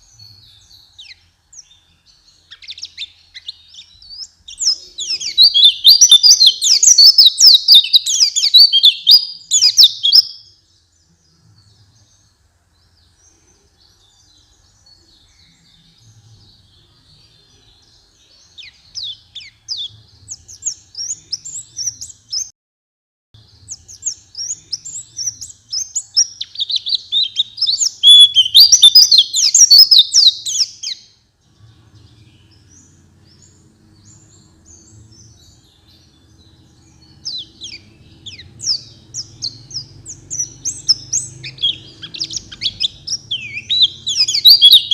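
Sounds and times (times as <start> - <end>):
bird twittering chirps: 0.0 - 22.5, 23.4 - 44.9.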